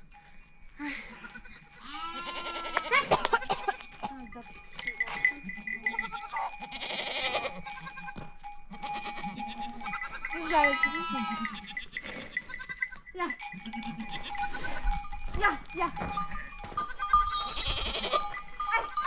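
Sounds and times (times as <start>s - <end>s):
goats and sheep bleating: 0.9s - 19.0s.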